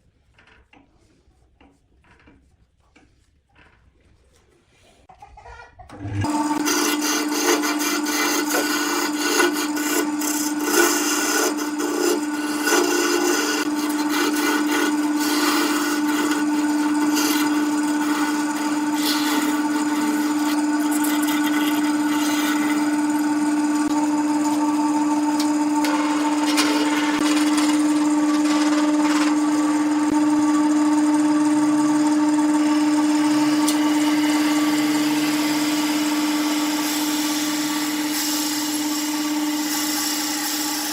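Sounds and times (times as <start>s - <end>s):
turning tool scraping wood: 0.1s - 5.0s, 6.2s - 40.9s
wood lathe motor: 5.9s - 40.9s.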